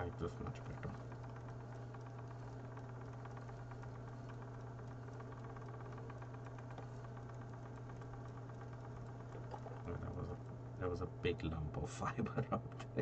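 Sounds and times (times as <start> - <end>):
spinning wheel whirling: 0.0 - 13.0.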